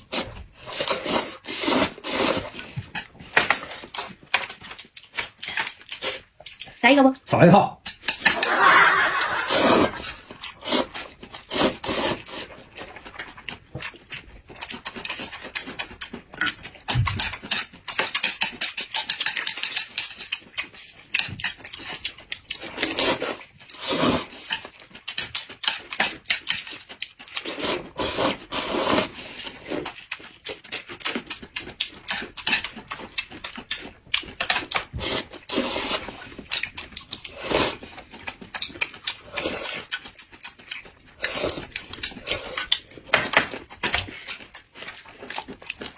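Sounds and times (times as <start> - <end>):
wet chewing and slurping noodles: 0.0 - 6.8, 7.8 - 45.9.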